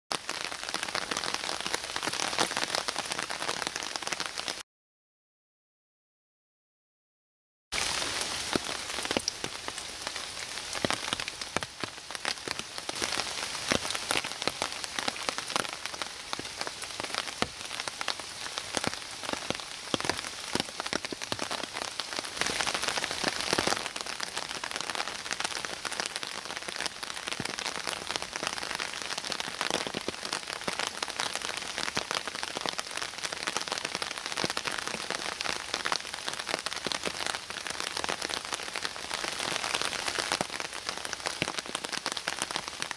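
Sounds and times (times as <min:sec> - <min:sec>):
rain hiss: 0:07.8 - 0:42.9.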